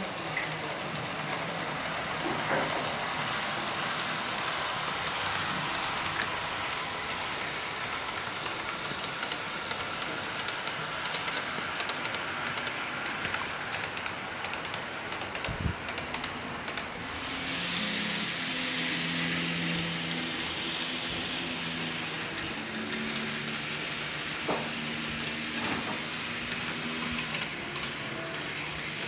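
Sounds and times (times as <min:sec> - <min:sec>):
model train whirring: 0:00.0 - 0:29.0
wheels clicking over rail joints: 0:00.0 - 0:29.0.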